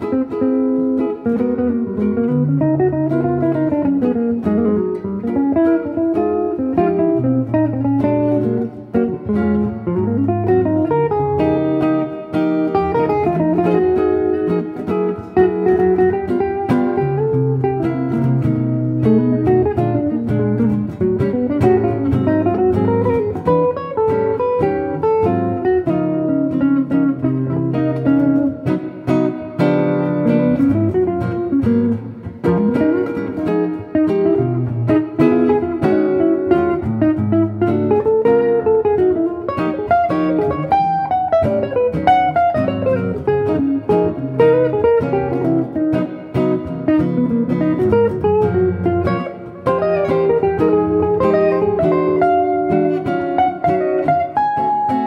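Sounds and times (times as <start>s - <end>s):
electric guitar chords: 0.0s - 55.0s
electric guitar melody: 0.0s - 55.0s.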